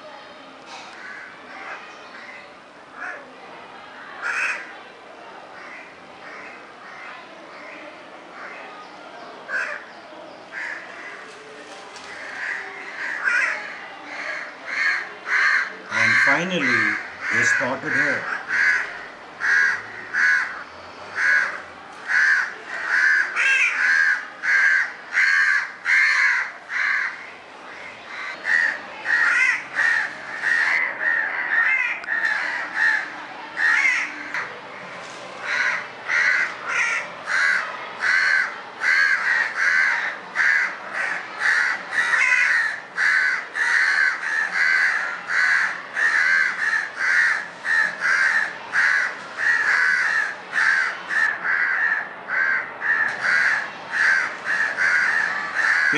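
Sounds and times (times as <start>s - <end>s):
crows cawing: 0.8s - 2.4s, 4.2s - 4.7s, 5.6s - 7.8s, 8.4s - 8.7s, 9.5s - 9.8s, 10.5s - 11.3s, 12.1s - 34.5s, 35.4s - 55.9s.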